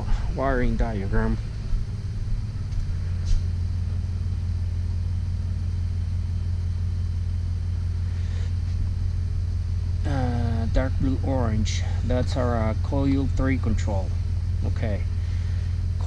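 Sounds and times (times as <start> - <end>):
engine idling with misfire: 0.0 - 16.0.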